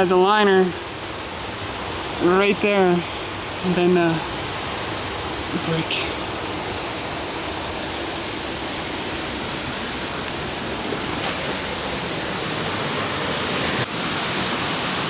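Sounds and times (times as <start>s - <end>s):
steady rushing noise: 0.1s - 15.0s.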